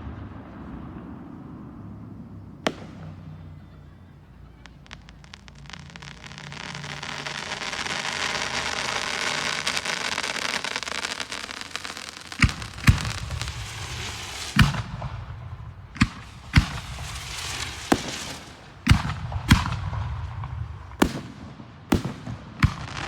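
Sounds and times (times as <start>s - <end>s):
firework bangs: 0.0s - 23.0s
fireworks crackling: 0.0s - 23.0s.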